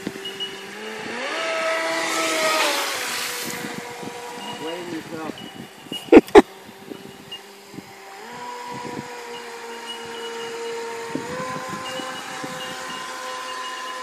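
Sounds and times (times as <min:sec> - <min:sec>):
model boat motor droning: 0:00.0 - 0:14.0.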